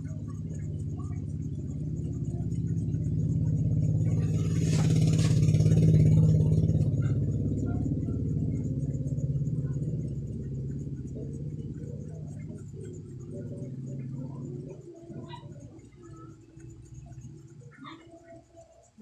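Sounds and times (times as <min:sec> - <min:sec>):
vehicle engine passing by: 0:00.0 - 0:17.6.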